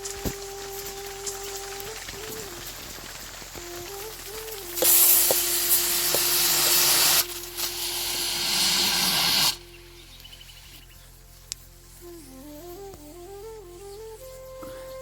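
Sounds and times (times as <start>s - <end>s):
loud hissing noise: 0.0s - 12.4s.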